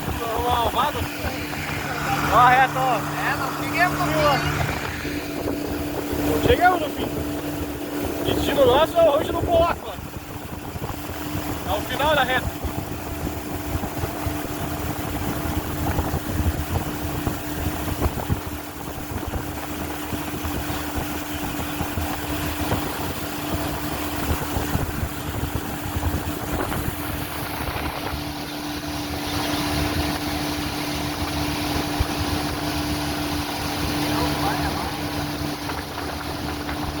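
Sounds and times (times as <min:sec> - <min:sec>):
boat motor humming: 0:00.0 - 0:37.0
water and air noise: 0:00.0 - 0:37.0.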